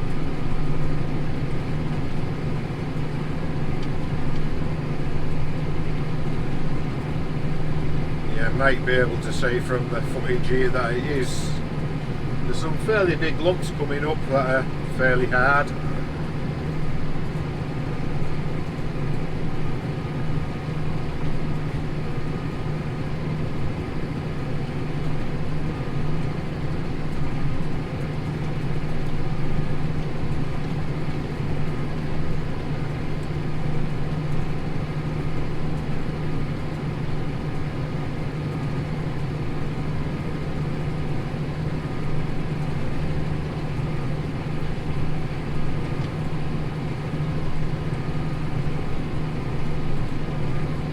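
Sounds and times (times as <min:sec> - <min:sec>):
tractor engine droning: 0:00.0 - 0:50.9.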